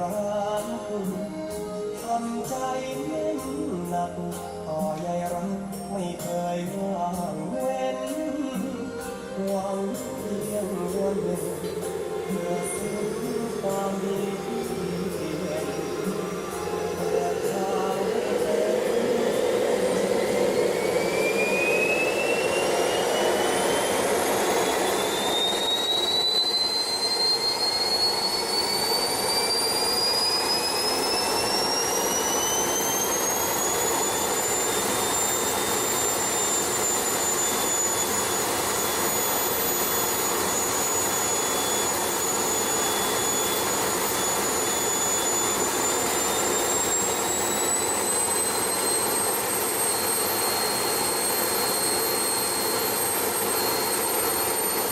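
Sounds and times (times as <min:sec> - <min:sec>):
engines whining: 0:06.7 - 0:54.9.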